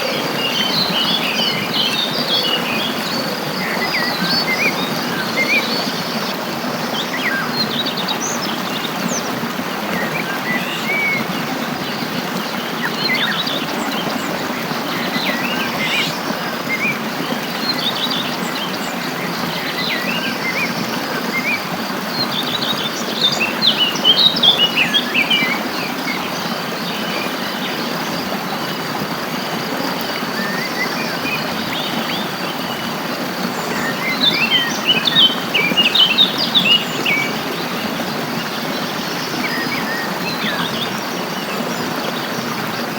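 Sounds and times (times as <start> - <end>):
wild birds chirping: 0.0 - 42.9.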